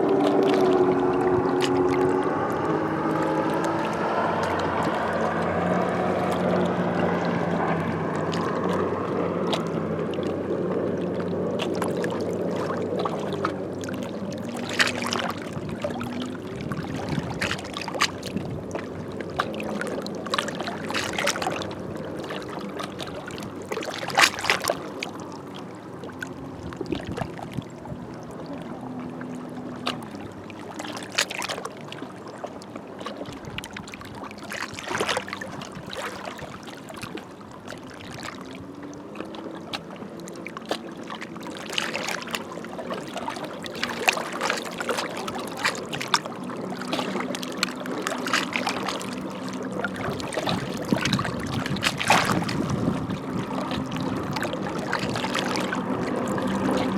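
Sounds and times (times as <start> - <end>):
boat engine running: 0.0 - 56.9
waves lapping on shore: 0.0 - 56.9.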